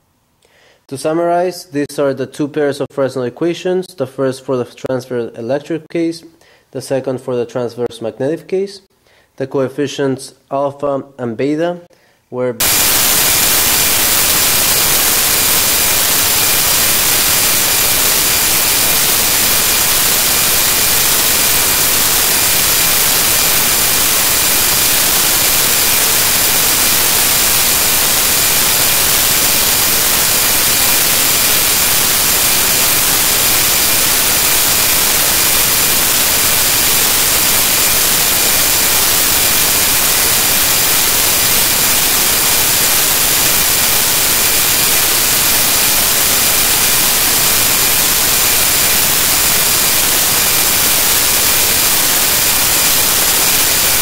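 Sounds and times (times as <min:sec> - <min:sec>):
static hiss: 0:00.0 - 0:02.0, 0:12.6 - 0:54.0.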